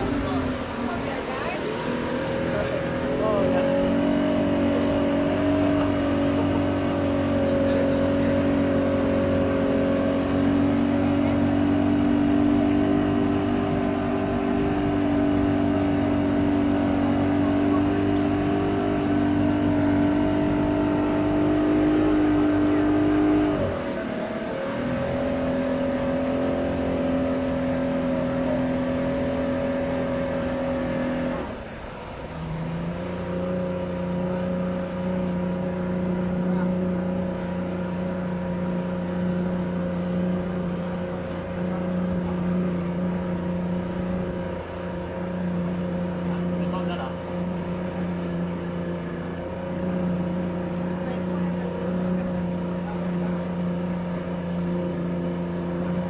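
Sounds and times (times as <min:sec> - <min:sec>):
motorboat engine running: 0:00.0 - 0:56.0
rush of boat wake: 0:00.0 - 0:56.0.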